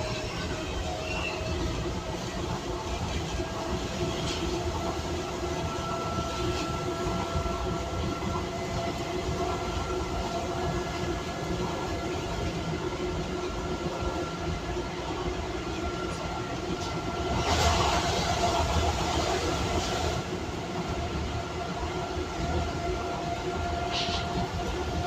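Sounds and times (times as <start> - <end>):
train rumble and hiss: 0.0 - 25.0.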